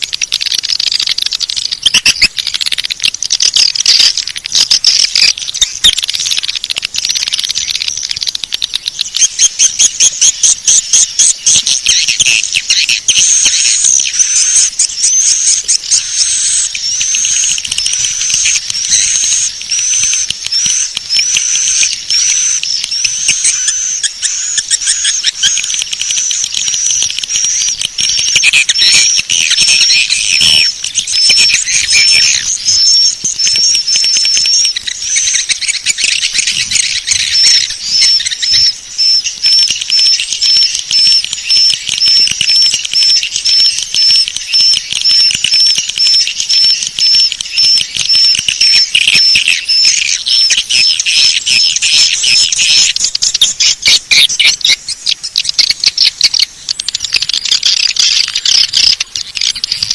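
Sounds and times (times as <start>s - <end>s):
swiftlets twittering: 0.0s - 59.9s.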